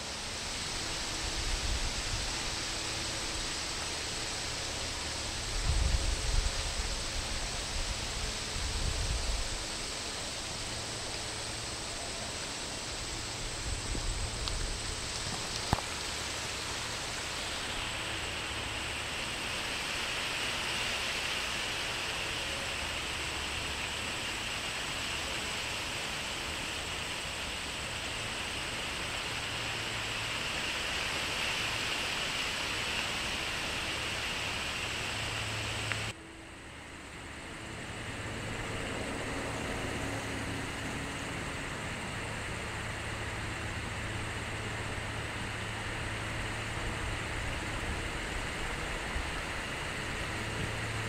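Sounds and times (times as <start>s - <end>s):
higher hiss: 0.0s - 51.0s
outdoor background hiss: 0.0s - 51.0s.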